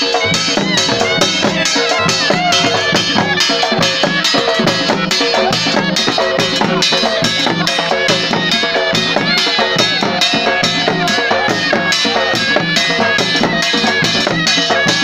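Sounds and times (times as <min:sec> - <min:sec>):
dhol drums fast rhythm: 0:00.0 - 0:15.0
reedy surna melody: 0:00.0 - 0:15.0.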